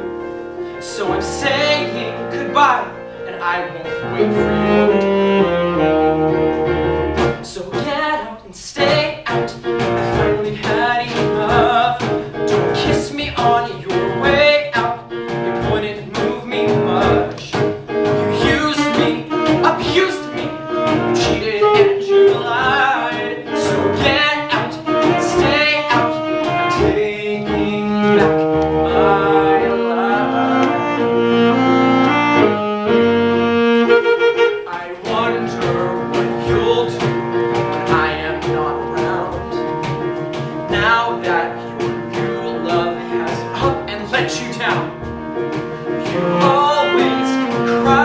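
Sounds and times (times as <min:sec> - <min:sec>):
live band playing: 0:00.0 - 0:48.0
steady drum beat: 0:03.4 - 0:48.0.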